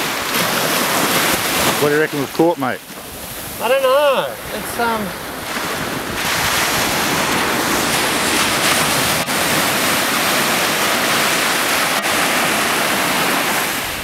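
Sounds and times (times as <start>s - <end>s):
small waves washing on beach: 0.0s - 14.0s.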